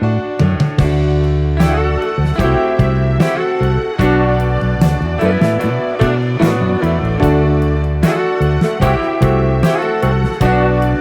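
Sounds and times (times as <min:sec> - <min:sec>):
instrumental piano music: 0:00.0 - 0:11.0.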